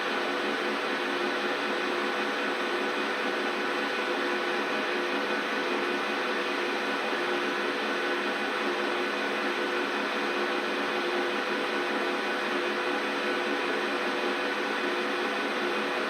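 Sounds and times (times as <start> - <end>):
washing machine whirring hum: 0.0 - 16.0.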